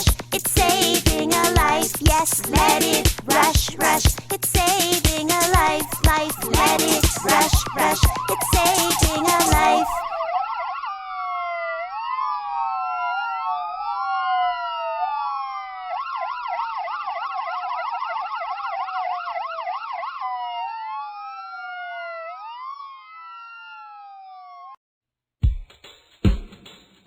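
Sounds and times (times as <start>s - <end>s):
ambulance siren wailing and yelping: 0.0s - 24.8s.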